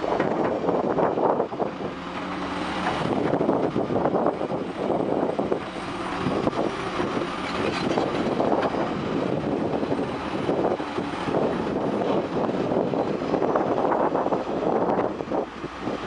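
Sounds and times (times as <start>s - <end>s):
excavator diesel engine under load: 0.0s - 16.0s.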